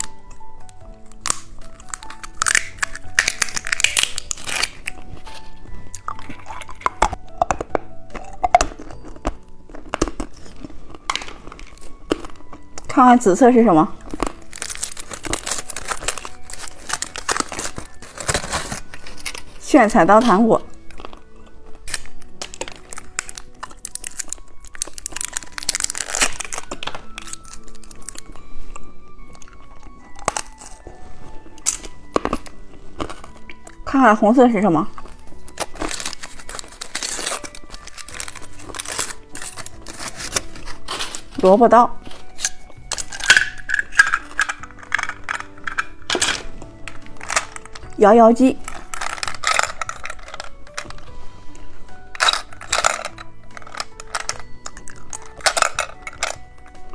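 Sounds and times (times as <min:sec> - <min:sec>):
plastic packaging crinkling: 0:00.0 - 0:56.9
soft background music: 0:00.0 - 0:56.9.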